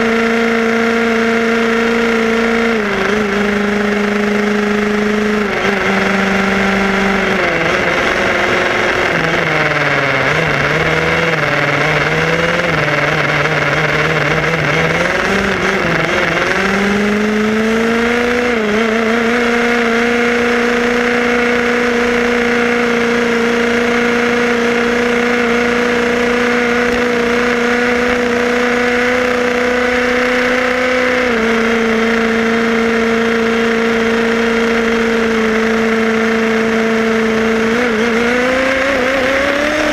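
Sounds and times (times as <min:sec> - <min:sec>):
tyre and road noise: 0:00.0 - 0:39.9.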